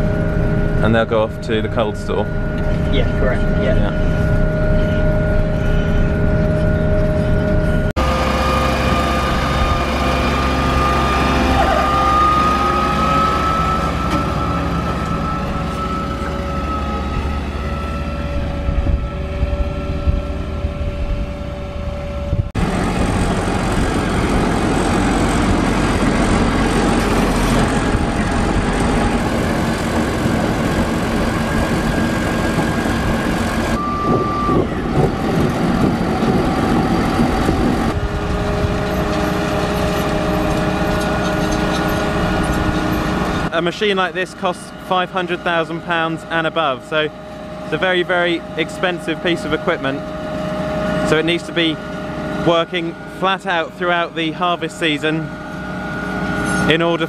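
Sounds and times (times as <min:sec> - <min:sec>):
harvester engine and machinery: 0:00.0 - 0:57.0
steady machine whine: 0:00.0 - 0:57.0.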